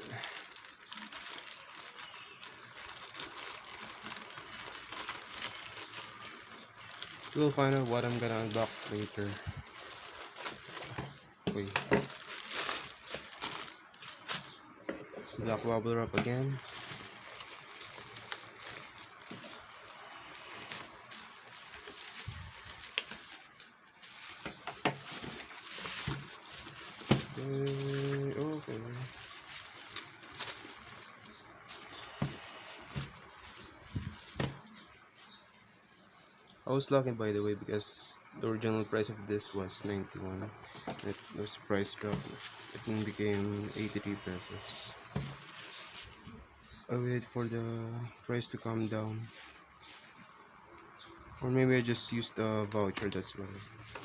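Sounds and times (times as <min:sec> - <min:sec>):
plastic packaging crinkling: 0:00.0 - 0:14.8, 0:15.4 - 0:36.6, 0:40.6 - 0:46.8, 0:48.9 - 0:51.2, 0:51.8 - 0:54.0.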